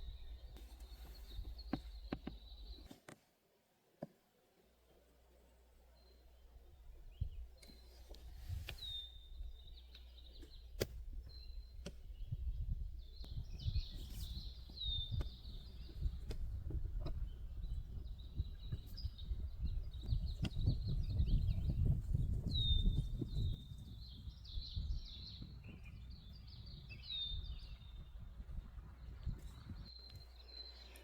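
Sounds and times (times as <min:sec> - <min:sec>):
small birds chirping: 0:00.0 - 0:03.0, 0:04.9 - 0:31.0.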